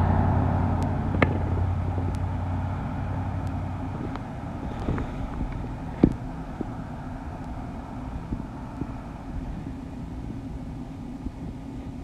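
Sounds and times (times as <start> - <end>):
low motor hum: 0.0 - 12.0
outdoor background noise: 0.0 - 12.0.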